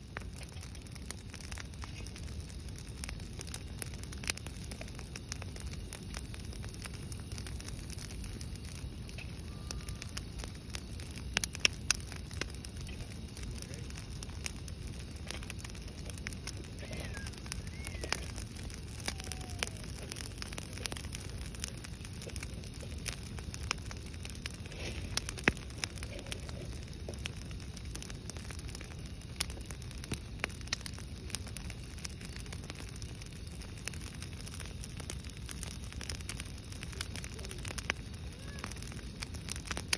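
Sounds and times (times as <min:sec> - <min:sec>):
branches crackling and popping: 0:00.0 - 0:39.9
low rushing fire: 0:00.0 - 0:39.9.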